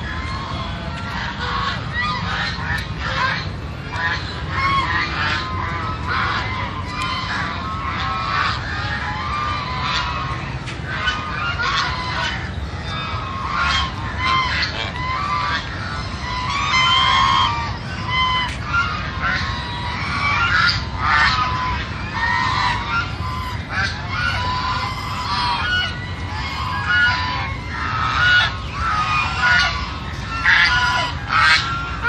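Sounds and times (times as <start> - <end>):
geese honking: 0.0 - 32.0.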